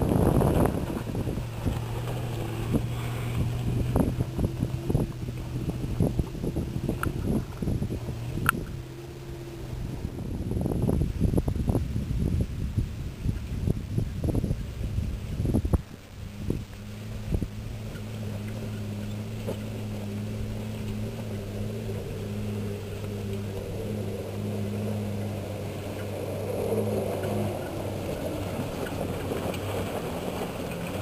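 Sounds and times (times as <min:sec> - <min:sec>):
suv engine running under load: 0:00.0 - 0:31.0.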